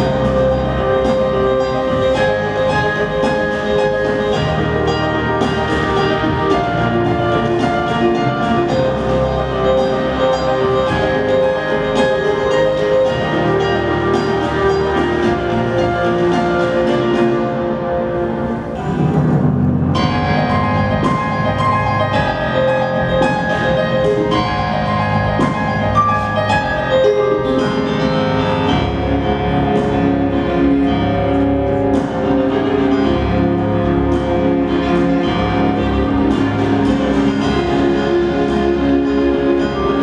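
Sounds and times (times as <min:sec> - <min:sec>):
instrumental music with ringing notes: 0:00.0 - 0:40.0.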